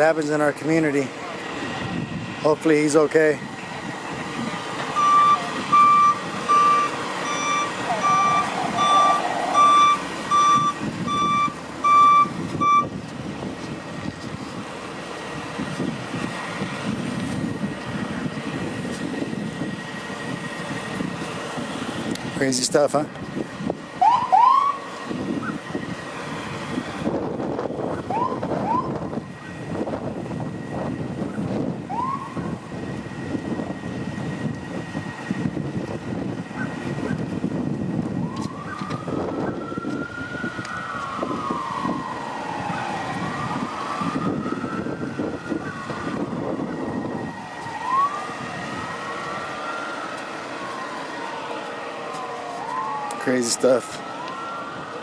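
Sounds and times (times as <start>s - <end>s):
traffic noise: 0.0s - 55.0s
emergency siren: 1.2s - 22.3s, 23.3s - 55.0s.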